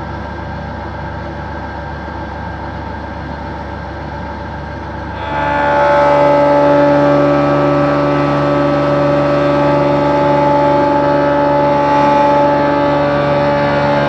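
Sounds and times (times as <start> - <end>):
machine steady whine: 0.0 - 14.0.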